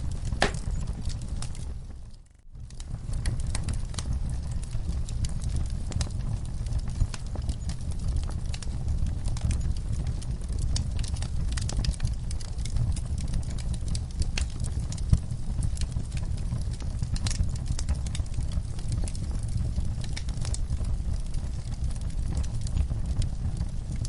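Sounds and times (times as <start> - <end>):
fire flames roaring: 0.0 - 24.0
wood fire crackling and popping: 0.0 - 24.0.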